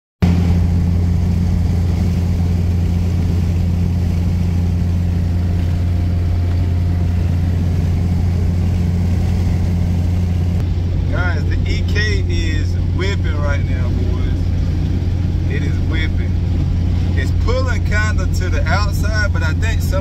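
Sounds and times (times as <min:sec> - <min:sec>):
car engine drone: 0:00.2 - 0:20.0
road noise: 0:00.2 - 0:20.0.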